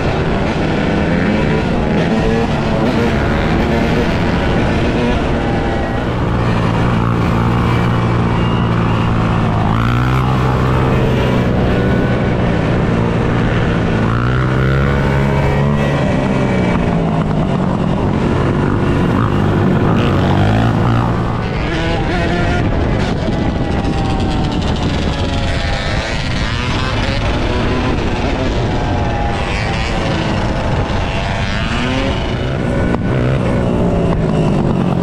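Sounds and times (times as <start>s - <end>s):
dirt bike and atv engines revving: 0.0s - 35.0s.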